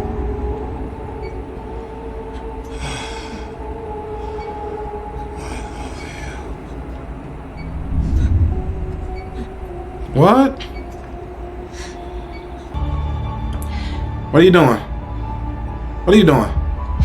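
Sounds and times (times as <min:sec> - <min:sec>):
low rumble: 0:00.0 - 0:16.0
squealing horror drone: 0:00.0 - 0:16.4.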